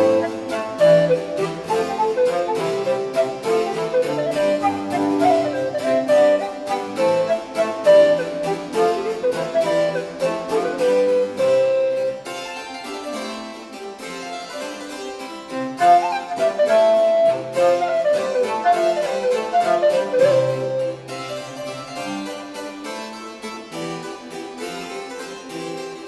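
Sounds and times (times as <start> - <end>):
harpsichord music: 0.0 - 26.0.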